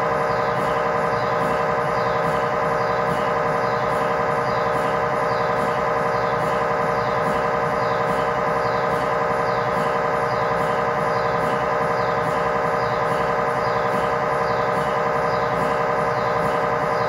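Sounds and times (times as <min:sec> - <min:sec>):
mri scanner buzzing drone: 0:00.0 - 0:17.0.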